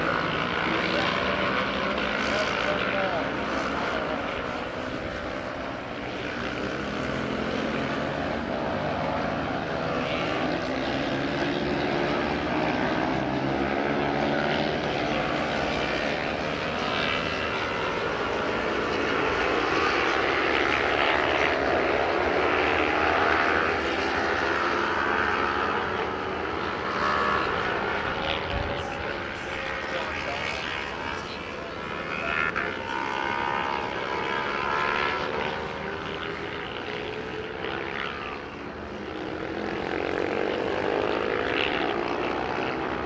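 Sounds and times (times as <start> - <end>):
racing motorcycle engines revving: 0.0 - 43.0.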